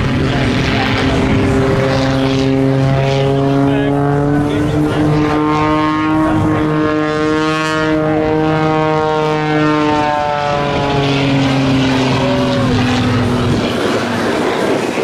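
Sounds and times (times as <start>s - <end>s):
propeller airplane droning overhead: 0.0s - 15.0s.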